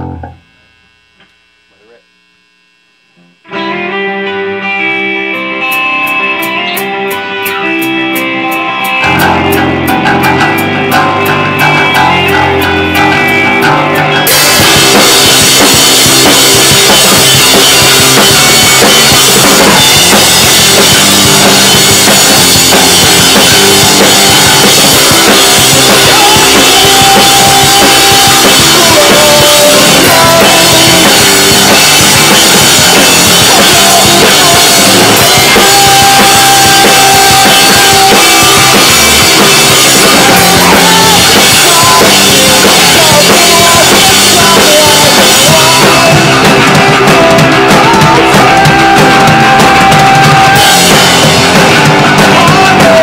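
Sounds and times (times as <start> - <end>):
electric guitar: 3.0 - 53.0
live rock band playing: 3.2 - 53.0.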